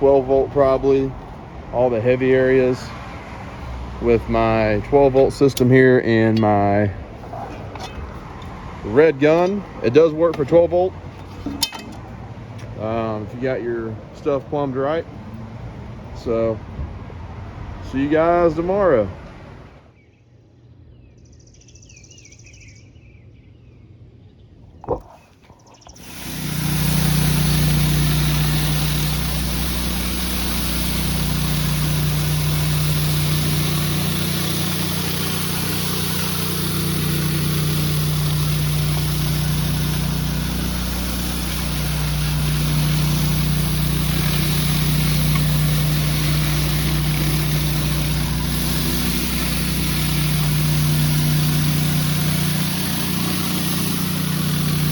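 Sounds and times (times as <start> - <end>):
engine running steadily: 0.0 - 19.8, 26.0 - 54.9.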